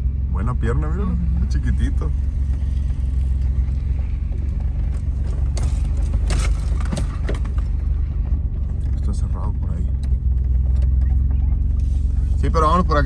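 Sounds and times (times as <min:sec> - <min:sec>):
car rumble inside cabin: 0:00.0 - 0:13.0.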